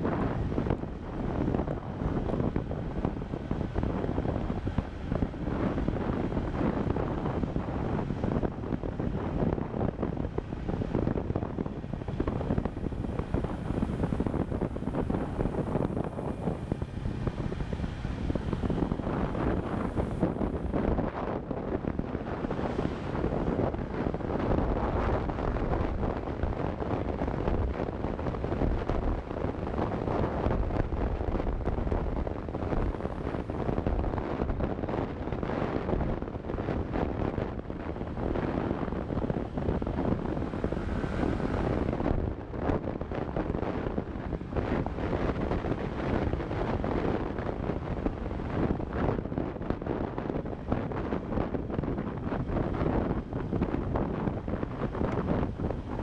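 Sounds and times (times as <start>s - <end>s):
motorcycle engine drone: 0.0s - 56.0s
tyres on road: 0.0s - 56.0s
wind rushing over microphone: 0.0s - 56.0s.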